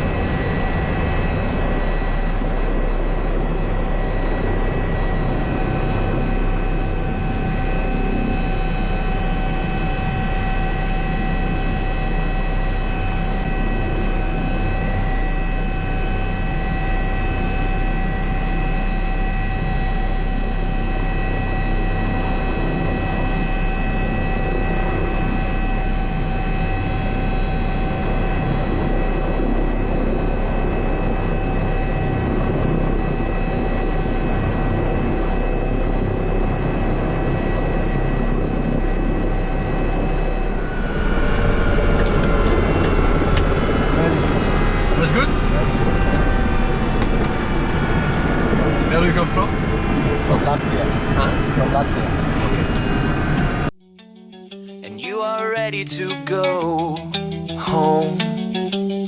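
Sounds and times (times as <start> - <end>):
helicopter engine and rotor noise: 0.0 - 53.7
high turbine whines: 0.0 - 53.7.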